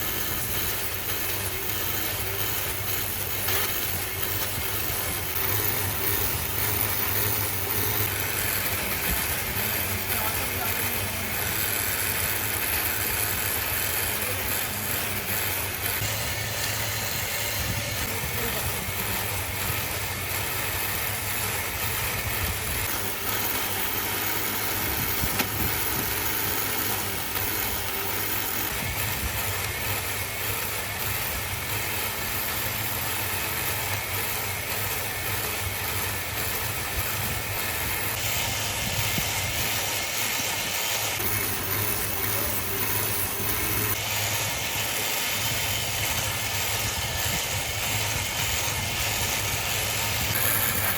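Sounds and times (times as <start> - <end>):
workshop machinery humming and whirring: 0.0 - 50.9.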